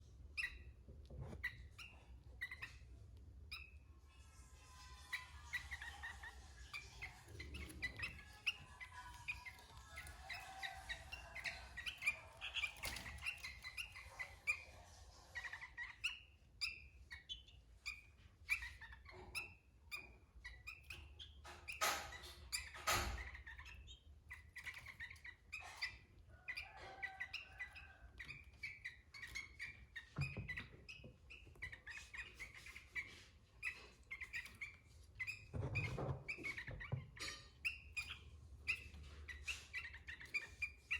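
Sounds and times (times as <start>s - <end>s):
bird chirping song: 0.1s - 40.9s.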